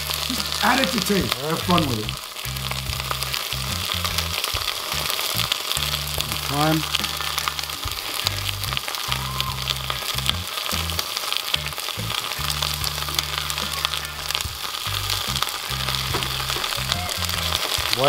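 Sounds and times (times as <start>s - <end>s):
background music with bass: 0.0s - 18.0s
vegetables sizzling in butter: 0.0s - 18.0s.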